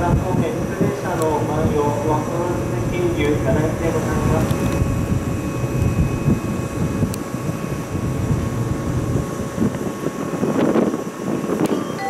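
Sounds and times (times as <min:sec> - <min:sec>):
train cars rumbling past: 0:00.0 - 0:10.1.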